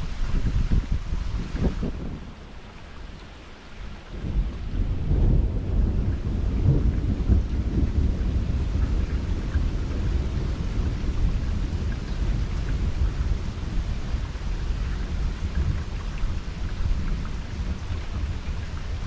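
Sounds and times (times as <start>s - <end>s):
steady rain: 0.0s - 19.0s
thunder rumbling: 0.0s - 19.0s.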